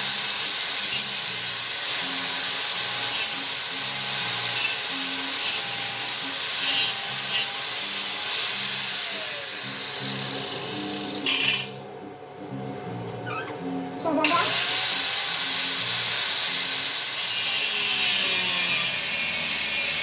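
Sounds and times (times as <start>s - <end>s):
angle grinder cutting steel: 0.0s - 11.7s, 14.2s - 20.0s.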